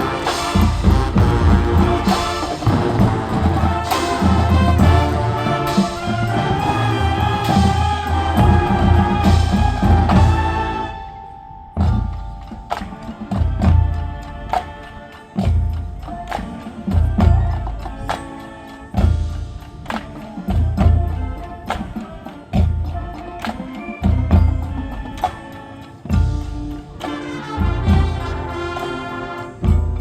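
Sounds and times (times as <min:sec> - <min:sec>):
brass chords: 0:00.0 - 0:30.0
fast ticking percussion: 0:00.0 - 0:30.0.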